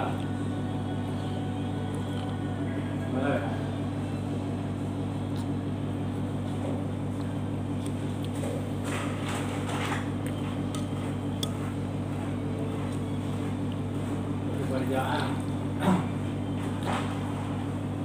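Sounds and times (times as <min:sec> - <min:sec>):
noisy eating sounds: 0:00.0 - 0:03.1, 0:04.9 - 0:17.3.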